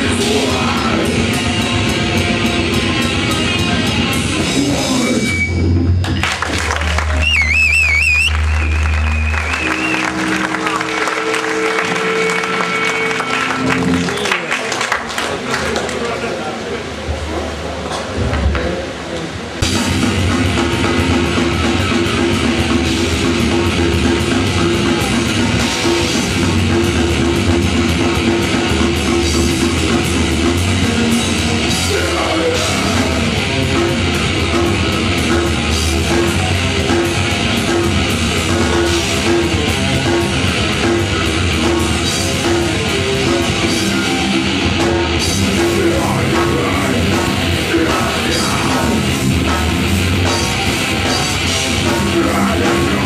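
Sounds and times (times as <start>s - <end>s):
heavy rock band playing: 0.0s - 14.4s, 19.6s - 53.0s.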